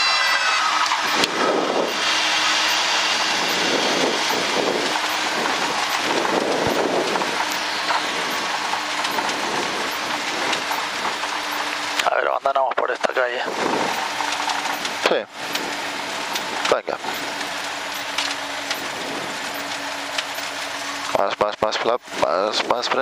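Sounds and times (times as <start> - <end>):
wind and propeller noise: 0.0 - 23.0.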